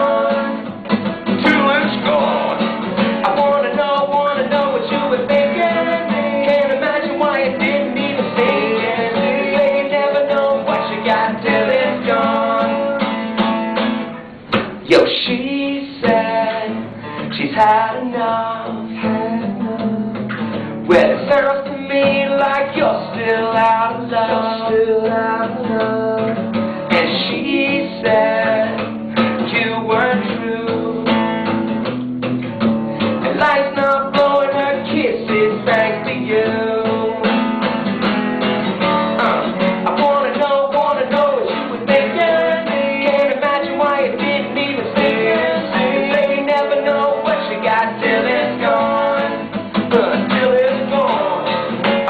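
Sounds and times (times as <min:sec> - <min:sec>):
man singing: 0:00.0 - 0:13.4, 0:14.8 - 0:31.3, 0:33.2 - 0:37.4, 0:39.1 - 0:52.0
acoustic guitar strumming: 0:00.0 - 0:52.0.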